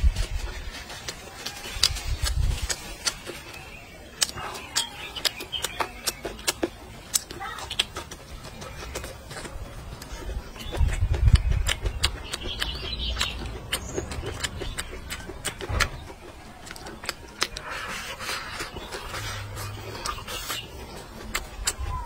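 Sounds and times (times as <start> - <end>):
chewing with wet mouth smacks: 0.0 - 22.0.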